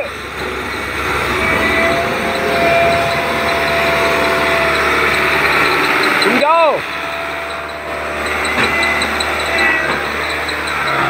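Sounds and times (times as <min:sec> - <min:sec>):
steady whine: 0:00.0 - 0:11.0
tractor engine running: 0:00.0 - 0:11.0
tyres on loose gravel: 0:00.2 - 0:11.0.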